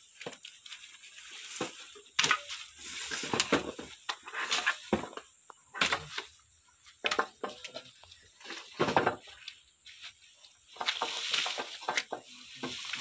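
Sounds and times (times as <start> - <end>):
wooden planks knocking and scraping: 0.0 - 9.6, 10.7 - 13.0.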